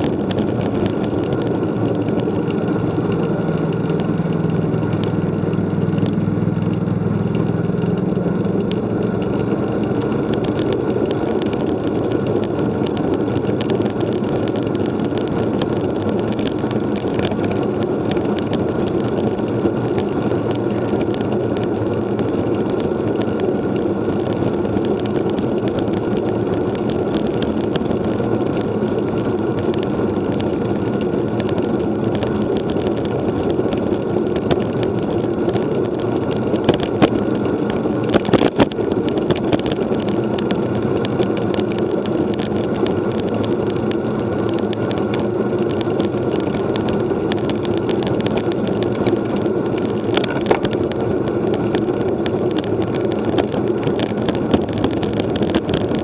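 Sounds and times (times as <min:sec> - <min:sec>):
low hum: 0:00.0 - 0:45.5
bike tyres on road: 0:00.0 - 0:56.0
wind on microphone: 0:00.0 - 0:56.0.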